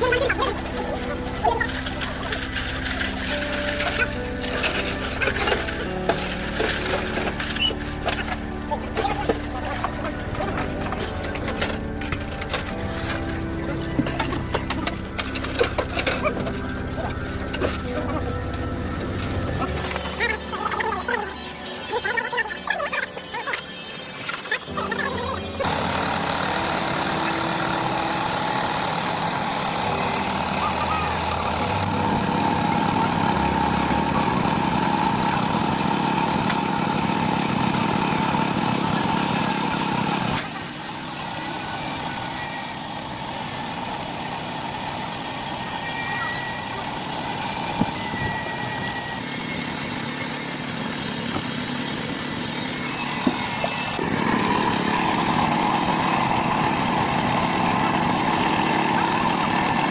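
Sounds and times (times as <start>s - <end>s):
truck engine idling: 0.0s - 23.6s, 24.6s - 40.5s, 43.0s - 59.9s
workshop noise: 0.0s - 59.9s.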